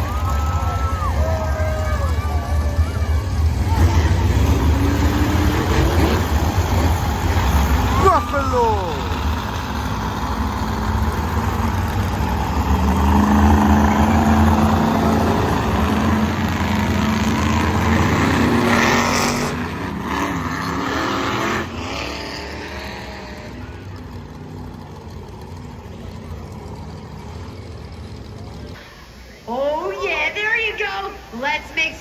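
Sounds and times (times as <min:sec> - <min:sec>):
truck engine revving: 0:00.0 - 0:28.8.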